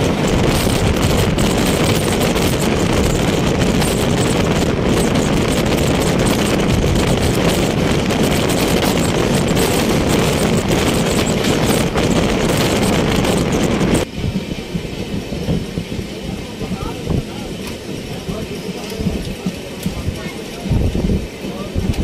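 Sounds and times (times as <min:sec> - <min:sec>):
train rumbling on rails: 0:00.0 - 0:22.0
wind rushing over microphone: 0:00.0 - 0:22.0.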